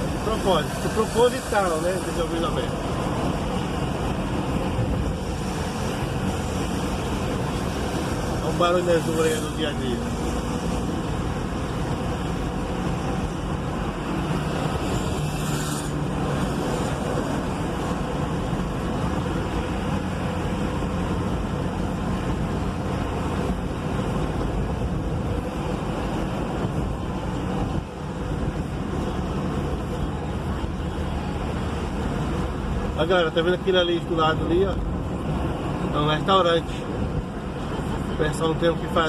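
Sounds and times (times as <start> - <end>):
road traffic engines and tyres: 0.0 - 39.0.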